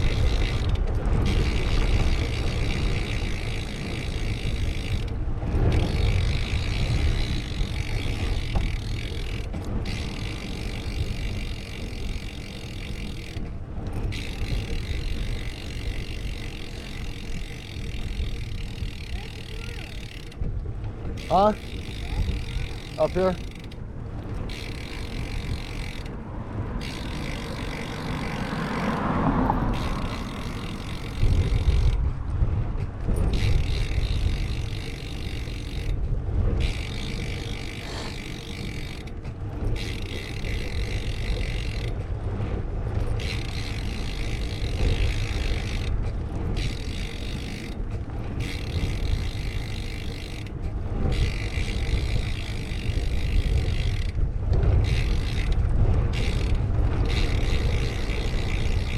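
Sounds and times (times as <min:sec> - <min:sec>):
bicycle tyre noise on road: 0:00.0 - 0:58.9
vehicle passing: 0:00.0 - 0:58.9
wind rushing over microphone: 0:00.0 - 0:58.9.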